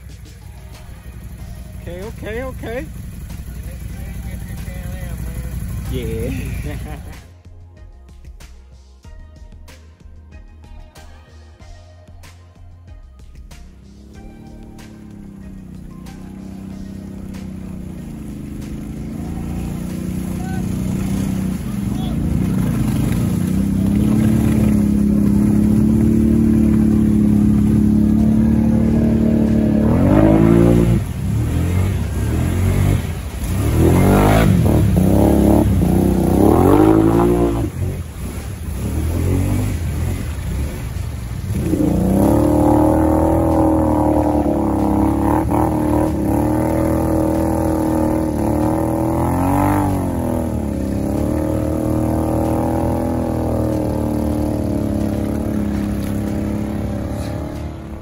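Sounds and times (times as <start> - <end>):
atv engines revving: 0.0 - 7.3, 13.7 - 58.0.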